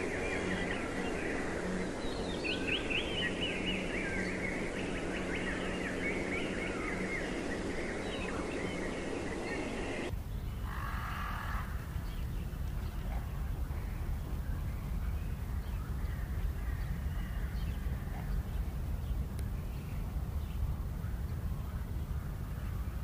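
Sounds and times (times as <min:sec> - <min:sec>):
lower bird calls: 0:00.0 - 0:23.0
small birds chirping: 0:00.0 - 0:23.0
steady low hum: 0:00.0 - 0:23.0.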